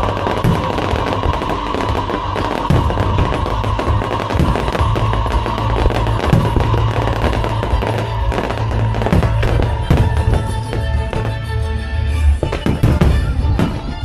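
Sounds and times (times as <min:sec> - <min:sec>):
low booms: 0:00.0 - 0:11.6
fireworks bursting and crackling: 0:00.0 - 0:14.0
show music: 0:00.0 - 0:14.0.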